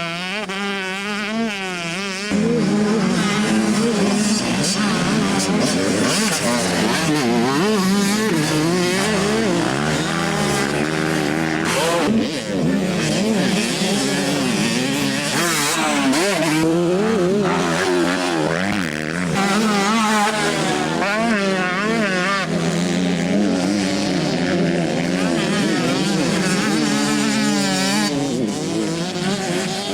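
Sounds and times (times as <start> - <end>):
motorcycle engines revving: 0.0 - 29.9.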